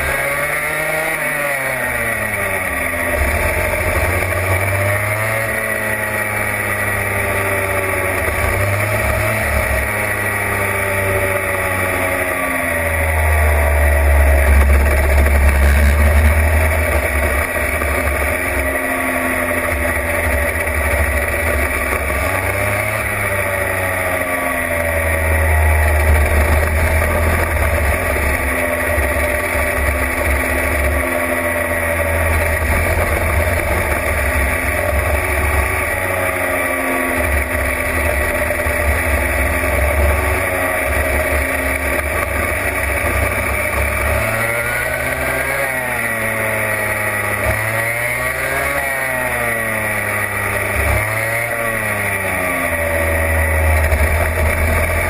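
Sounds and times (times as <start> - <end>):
kart engine revving: 0.0 - 55.0
other kart engines nearby: 0.0 - 55.0.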